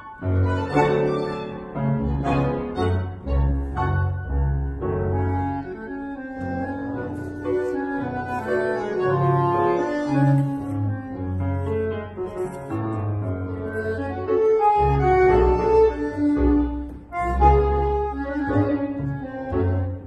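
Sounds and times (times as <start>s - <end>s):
piano: 0.0s - 20.0s
tango orchestra playing: 0.0s - 20.0s
plucked double bass: 0.2s - 20.0s.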